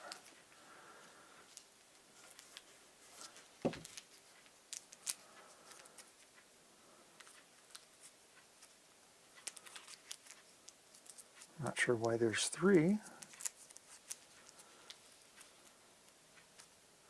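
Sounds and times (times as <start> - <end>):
clicks and rustles of packet: 0.0 - 6.4, 7.2 - 16.8.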